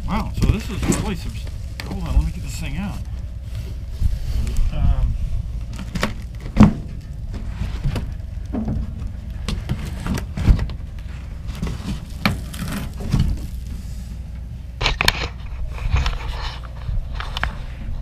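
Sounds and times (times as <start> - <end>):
low steady hum: 0.0 - 18.0
scraping and rustling: 0.0 - 18.0.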